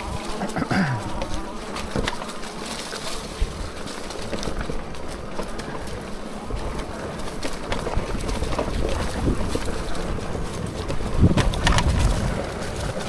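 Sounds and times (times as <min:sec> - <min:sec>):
electric bike buzzing hum: 0:00.0 - 0:13.0.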